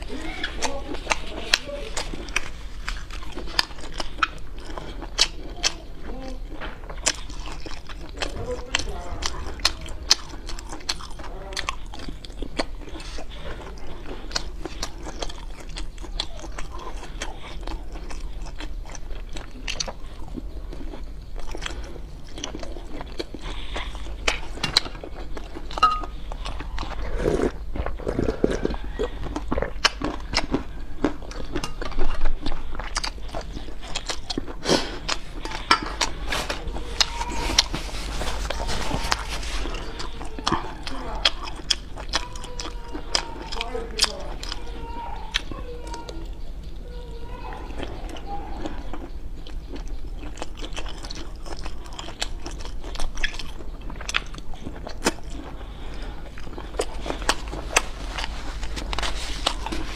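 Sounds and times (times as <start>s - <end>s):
biting and chewing food: 0.0s - 59.9s
mouth clicks and crunches: 0.0s - 59.9s.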